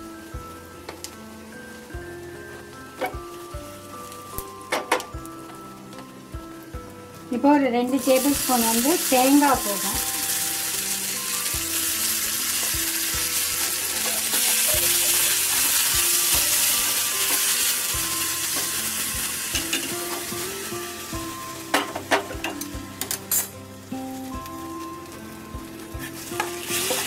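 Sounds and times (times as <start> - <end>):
coconut sizzling in oil: 0.0 - 27.0.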